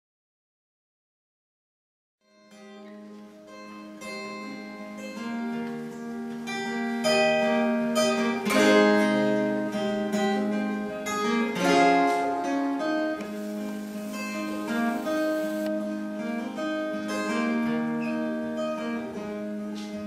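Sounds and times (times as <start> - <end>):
acoustic guitar playing: 2.3 - 20.0.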